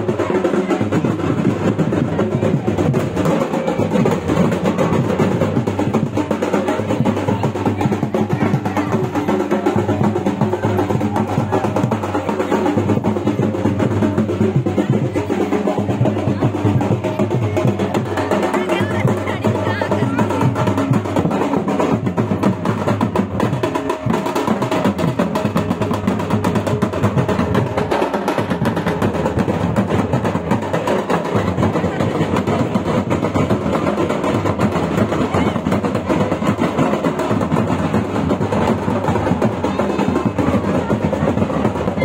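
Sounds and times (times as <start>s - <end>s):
folk drums beaten with sticks: 0.0s - 42.0s.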